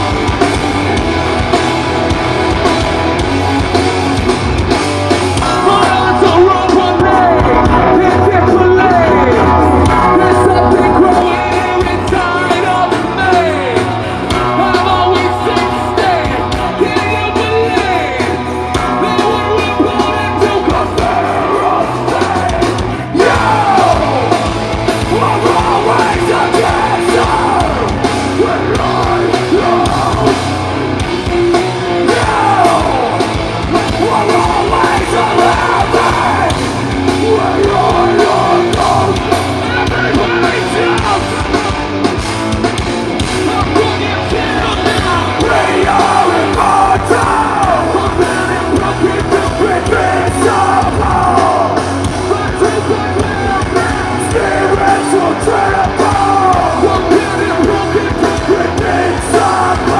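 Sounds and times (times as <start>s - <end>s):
live metal band playing: 0.0s - 59.9s
vocalist singing and yelling: 5.0s - 59.9s.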